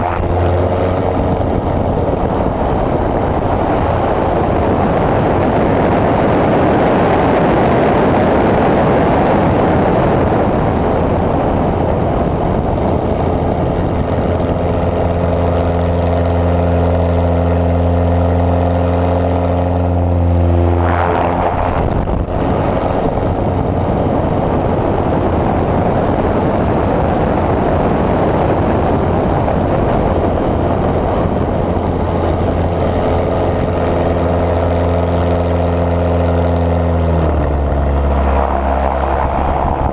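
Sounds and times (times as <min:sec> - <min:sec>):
airplane engine and propeller: 0:00.0 - 0:39.9
wind noise on microphone: 0:00.0 - 0:39.9.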